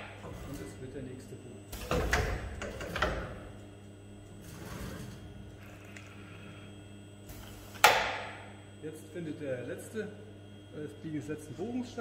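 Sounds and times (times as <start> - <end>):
machine humming and whirring: 0.0 - 12.0.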